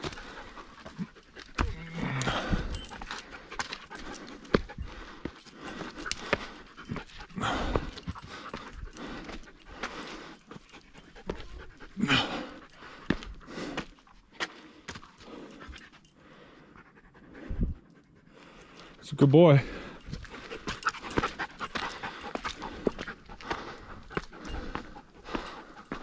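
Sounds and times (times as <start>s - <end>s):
dog panting heavily: 0.0s - 19.0s, 19.6s - 26.0s.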